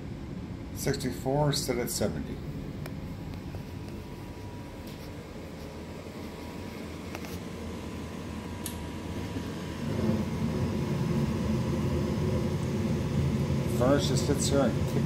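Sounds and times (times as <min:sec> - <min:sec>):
furnace flame rumbling: 0:00.0 - 0:15.0
furnace humming: 0:00.0 - 0:15.0.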